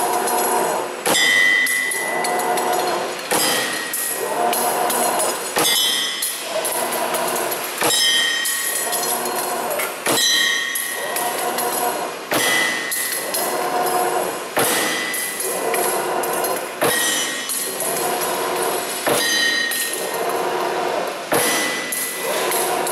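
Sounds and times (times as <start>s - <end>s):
machine motors whirring: 0.0s - 1.2s, 1.8s - 22.9s
sharp machine clack: 0.0s - 20.5s, 21.3s - 22.9s.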